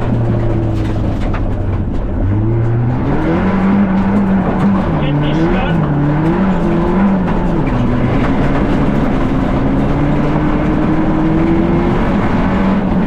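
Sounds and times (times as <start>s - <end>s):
car engine accelerating: 0.0s - 13.0s
road noise: 0.0s - 13.0s.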